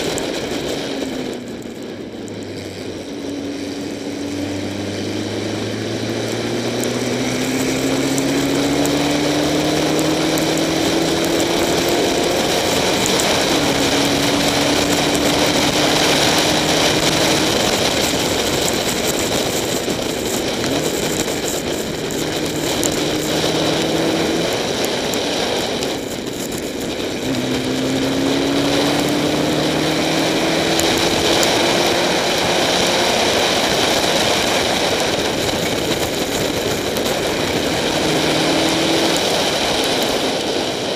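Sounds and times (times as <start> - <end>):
race car engine accelerating: 0.0 - 40.9
wind and tyre spray hiss: 3.4 - 40.9.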